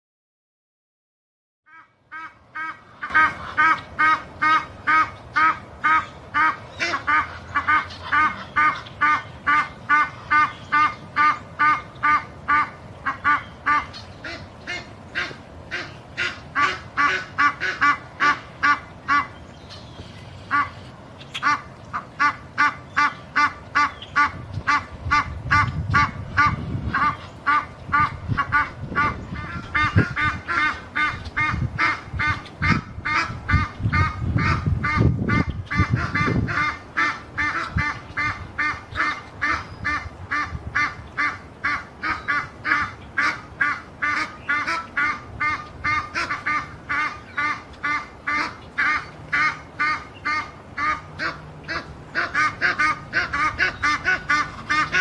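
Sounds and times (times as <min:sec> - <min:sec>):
geese honking: 0:01.7 - 0:55.0.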